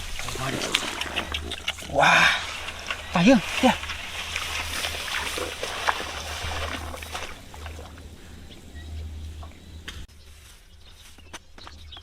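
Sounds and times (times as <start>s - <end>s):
shallow water splashing: 0.0s - 9.8s.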